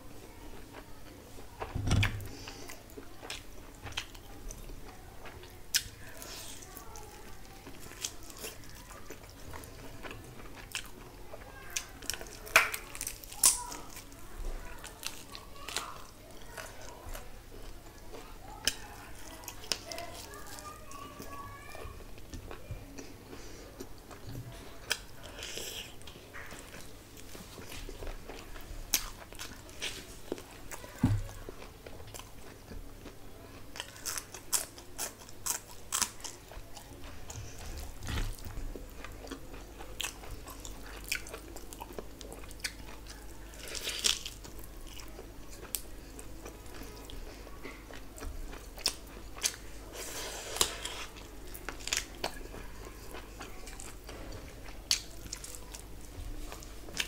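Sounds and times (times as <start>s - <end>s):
person chewing food: 0.5s - 57.0s.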